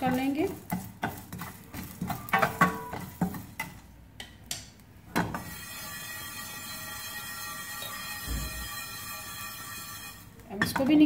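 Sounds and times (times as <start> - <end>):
spatula scraping a steel pan: 0.0 - 3.8, 5.3 - 11.0.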